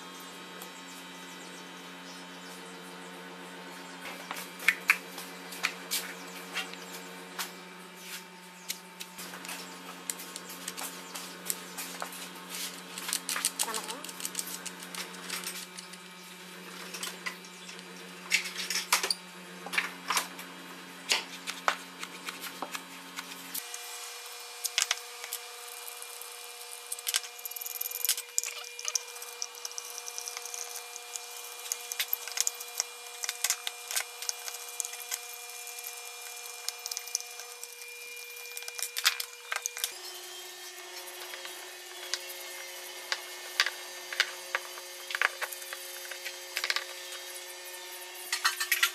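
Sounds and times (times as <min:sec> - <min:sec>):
steady low hum: 0:00.0 - 0:48.8.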